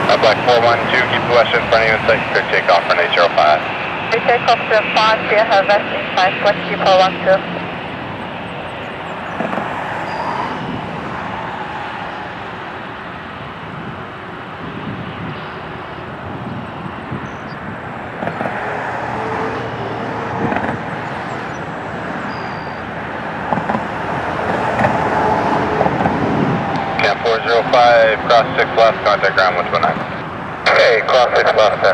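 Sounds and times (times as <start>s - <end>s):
jet engines at takeoff: 0.0s - 31.9s.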